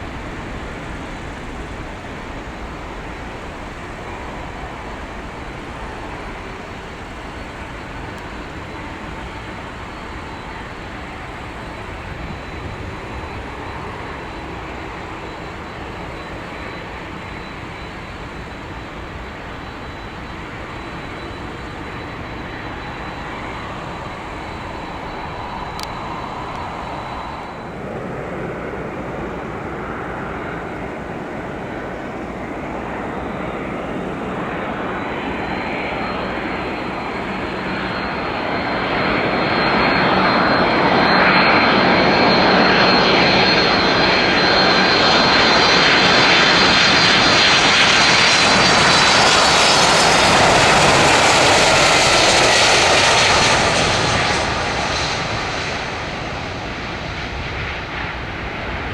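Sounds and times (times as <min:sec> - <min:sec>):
jet engines departing: 0:00.0 - 0:58.9
jet engines on approach: 0:00.0 - 0:58.9.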